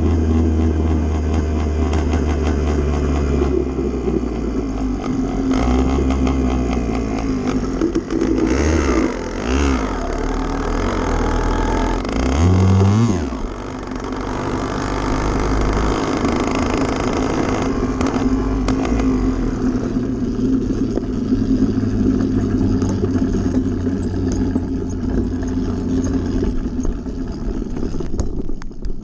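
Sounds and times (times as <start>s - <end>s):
motorbike engine running: 0.0s - 29.0s.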